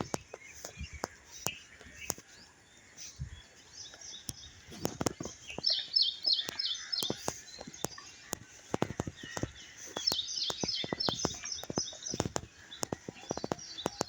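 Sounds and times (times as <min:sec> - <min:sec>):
light sharp ticks: 0:00.0 - 0:14.0
outdoor background hiss: 0:00.0 - 0:14.0
wild birds chirping: 0:00.0 - 0:14.0.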